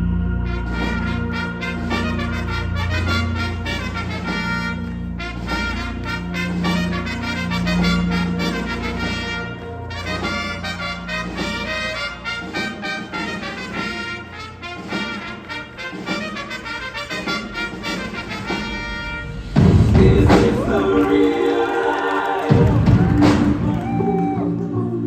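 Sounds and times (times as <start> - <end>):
wind ensemble playing: 0.0 - 25.0.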